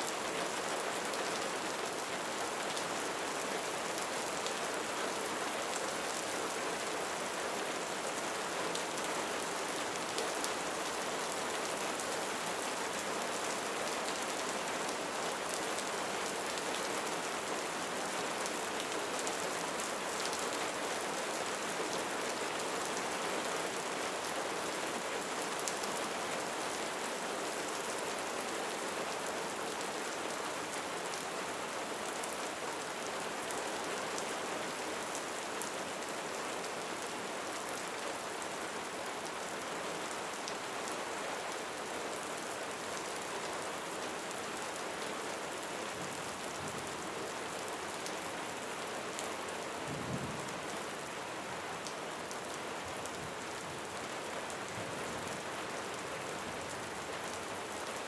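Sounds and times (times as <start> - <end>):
rain drumming on a roof: 0.0 - 58.0.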